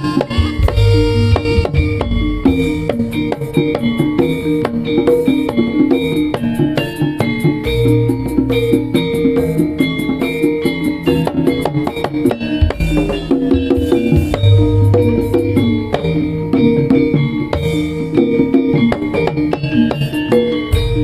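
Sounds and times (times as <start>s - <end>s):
hand drums: 0.0s - 21.0s
pitched percussion melody: 0.0s - 21.0s.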